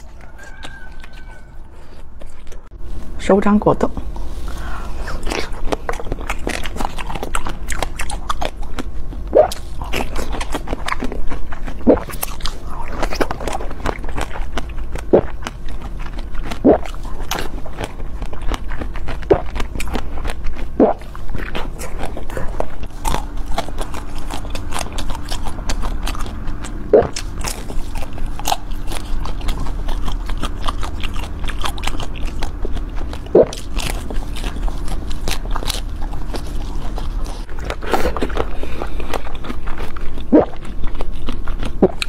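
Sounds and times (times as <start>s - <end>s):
wet chewing and mouth smacking: 0.0s - 3.1s, 3.9s - 42.0s.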